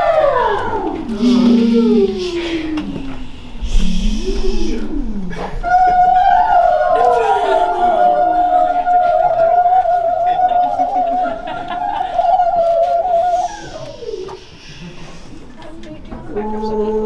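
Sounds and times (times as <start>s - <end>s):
lower tone sliding downward: 0.0s - 14.4s.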